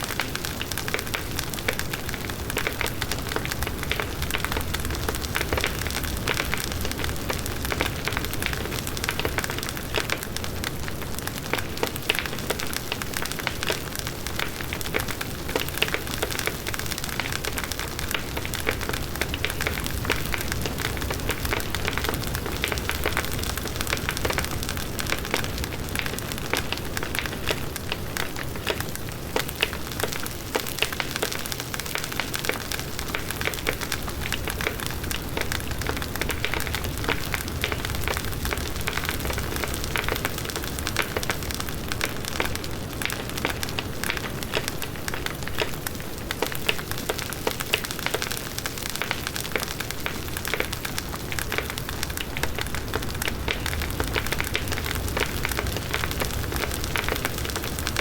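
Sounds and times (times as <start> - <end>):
burning wood crackling and popping: 0.0 - 58.0.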